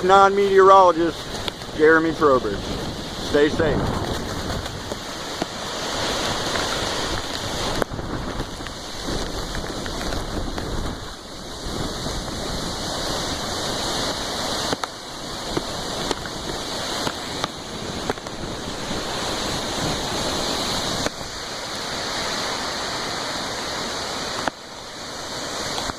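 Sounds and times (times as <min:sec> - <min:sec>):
hurricane wind and rain: 0:00.0 - 0:25.9
wind buffeting microphone: 0:00.0 - 0:25.9.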